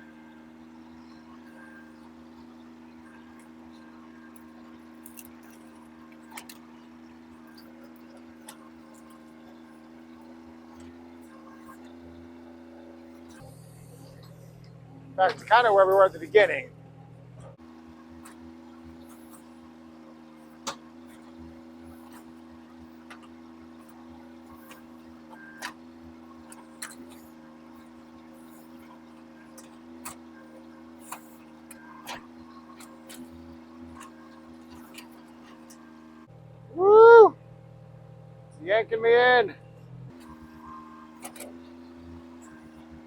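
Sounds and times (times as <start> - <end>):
diesel engine humming: 0.0 - 43.0.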